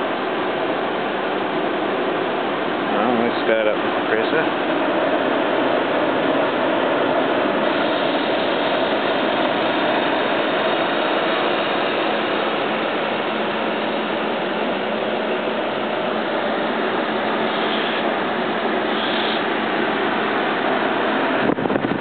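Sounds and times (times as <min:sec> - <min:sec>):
air conditioner fan rushing: 0:00.0 - 0:22.0
compressor running quietly: 0:00.0 - 0:22.0.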